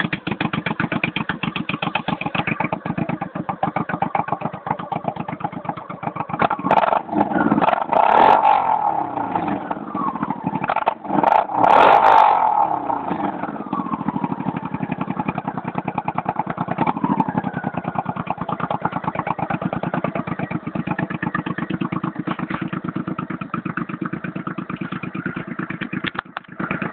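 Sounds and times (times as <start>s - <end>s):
motorcycle engine revving and idling: 0.0s - 26.9s.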